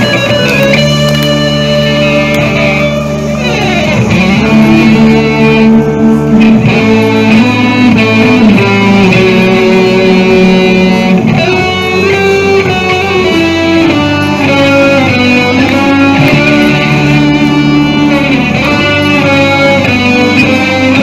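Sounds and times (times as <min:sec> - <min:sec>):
electric guitars rock instrumental: 0:00.0 - 0:21.0.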